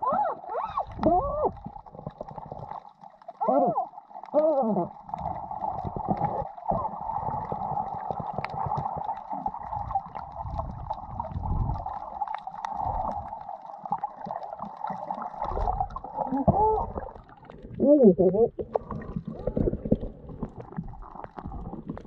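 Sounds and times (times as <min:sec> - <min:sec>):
underwater water sloshing: 0:00.0 - 0:22.0
small underwater clicks: 0:00.3 - 0:22.0.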